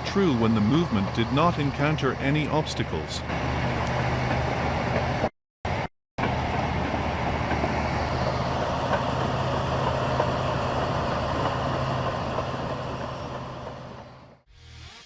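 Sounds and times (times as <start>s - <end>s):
diesel engine rumbling: 0.0s - 14.5s.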